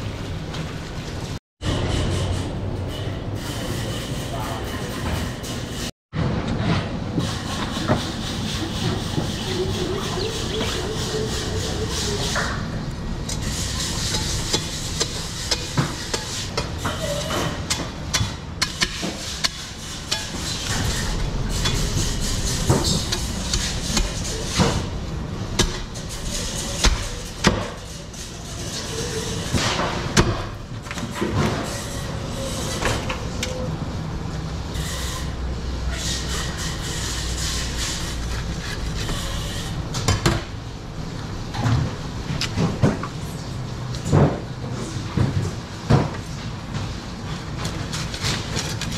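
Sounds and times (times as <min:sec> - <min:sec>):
steady background noise: 0:00.0 - 0:48.9.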